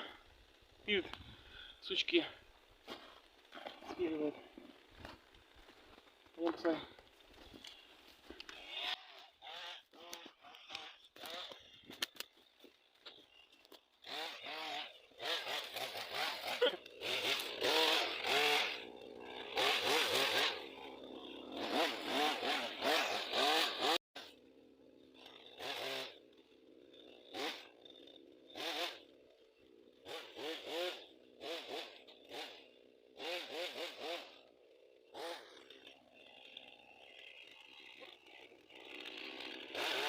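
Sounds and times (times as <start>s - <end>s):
chainsaw revving and cutting: 1.5s - 40.0s.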